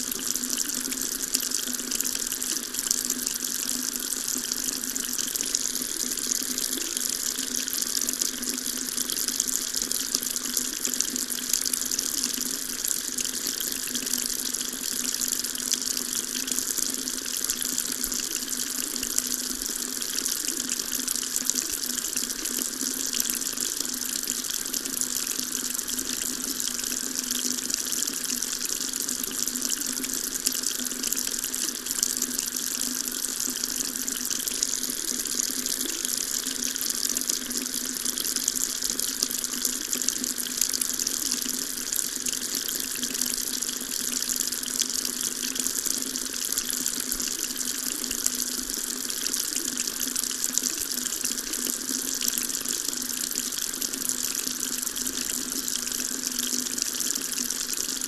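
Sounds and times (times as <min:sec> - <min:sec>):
tap water running into sink: 0:00.0 - 0:58.0.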